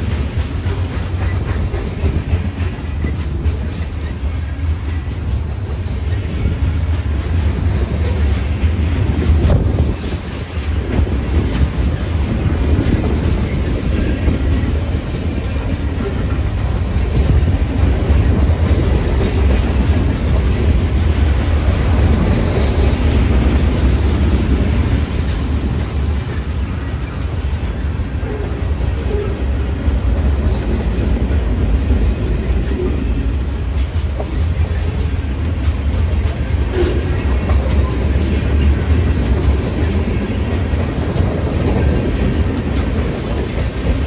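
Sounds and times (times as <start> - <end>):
freight train rumbling past: 0.0 - 44.0
steel wheels on rails: 0.0 - 44.0.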